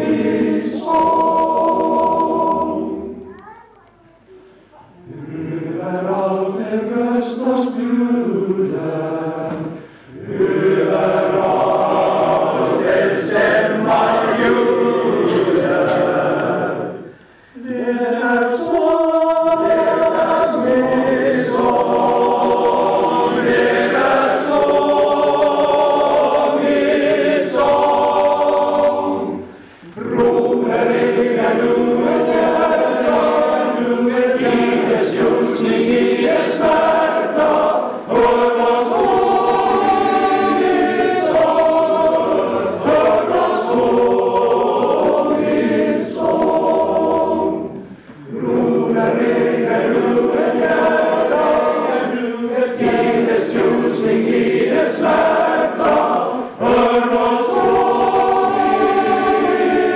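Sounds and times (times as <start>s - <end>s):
male choir singing a cappella: 0.0s - 3.2s, 5.0s - 59.9s.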